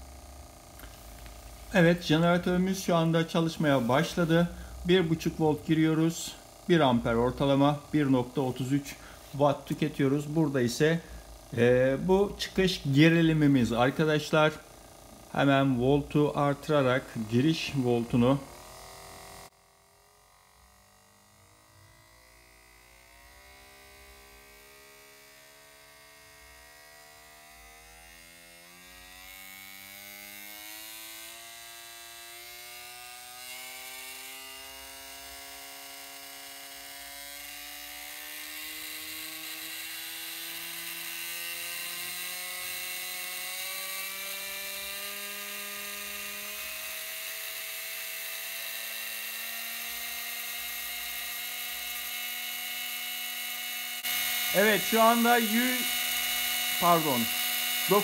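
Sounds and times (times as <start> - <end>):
electric motor whining: 0.0 - 19.5, 22.4 - 58.0.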